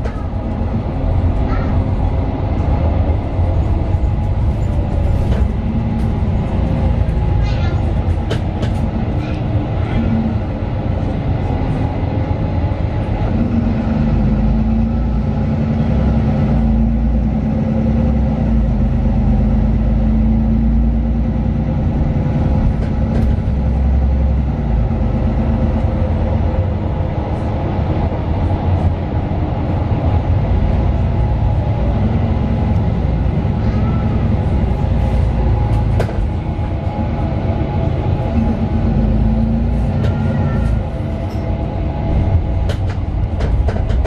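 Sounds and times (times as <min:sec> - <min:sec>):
bus engine low rumble: 0:00.0 - 0:44.0
deeper engine tone: 0:00.0 - 0:44.0.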